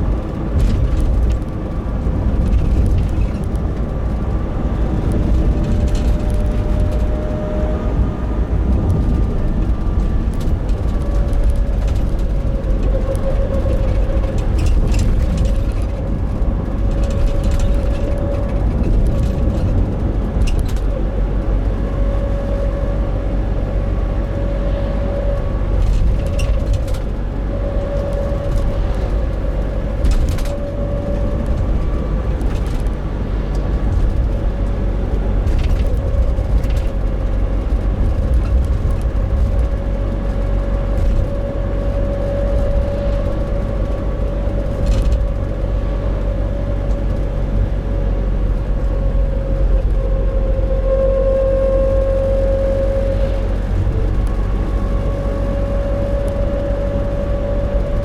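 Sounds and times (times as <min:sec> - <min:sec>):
road and engine rumble: 0:00.0 - 0:58.0
steady humming drone: 0:03.6 - 0:58.0.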